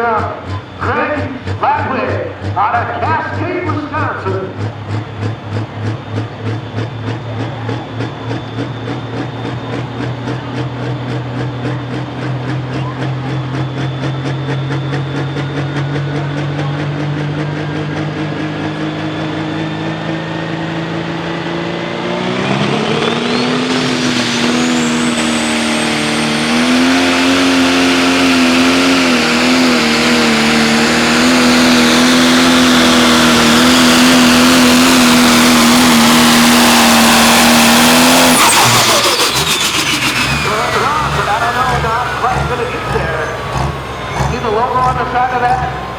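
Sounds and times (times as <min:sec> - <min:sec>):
diesel tractor engine revving: 0:00.0 - 0:45.9
turbo whine: 0:00.0 - 0:45.9.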